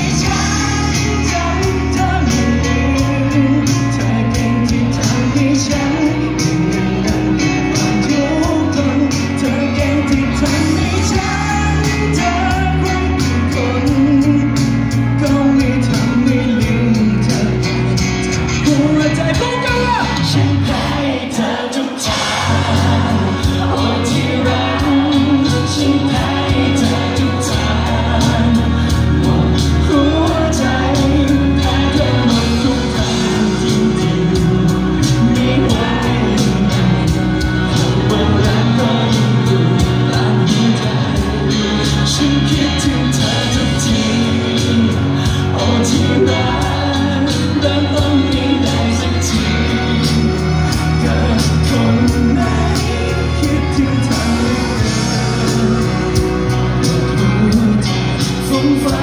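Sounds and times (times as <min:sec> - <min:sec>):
man singing into a microphone: 0:00.0 - 0:59.0
pop backing music with steady beat: 0:00.0 - 0:59.0.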